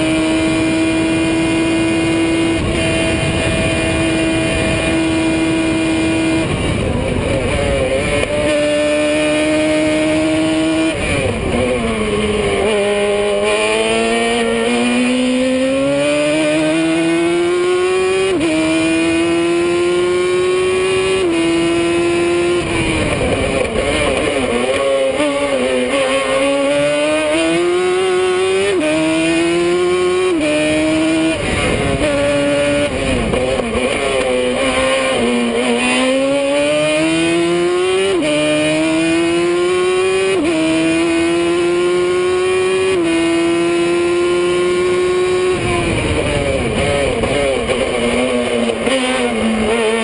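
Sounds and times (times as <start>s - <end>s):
wind rush: 0.0s - 25.4s, 26.5s - 37.9s, 42.4s - 50.0s
race car engine at high revs: 0.0s - 50.0s.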